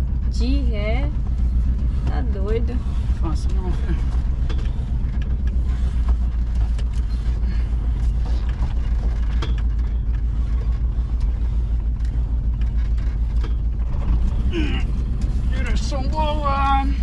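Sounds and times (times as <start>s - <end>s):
knocks and rattles: 0.0s - 17.0s
van engine rumbling: 0.0s - 17.0s.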